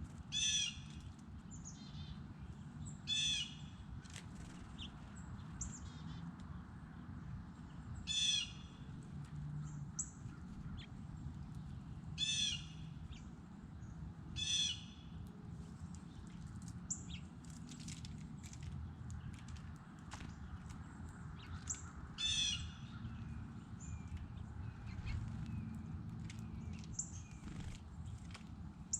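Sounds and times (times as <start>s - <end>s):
small birds chirping: 0.1s - 28.9s.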